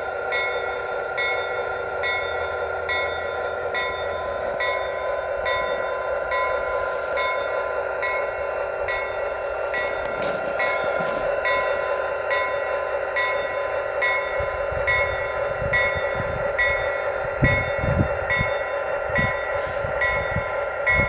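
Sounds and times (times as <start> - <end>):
model locomotive bell ringing: 0.0 - 21.0.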